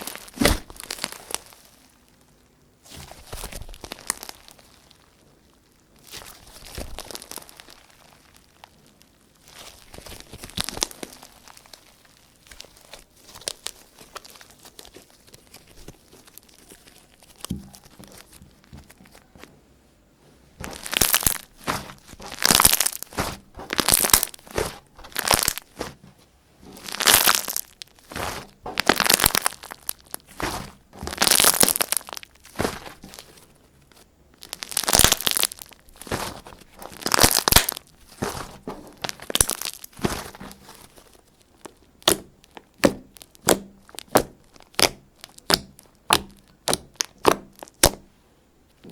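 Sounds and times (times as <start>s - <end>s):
slime squishing by hand: 0.0s - 19.7s, 20.5s - 48.9s.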